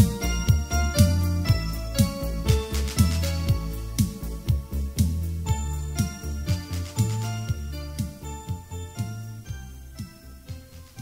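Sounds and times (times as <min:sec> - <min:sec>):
disco music with drum beat: 0:00.0 - 0:11.0
steady bass line: 0:00.0 - 0:11.0.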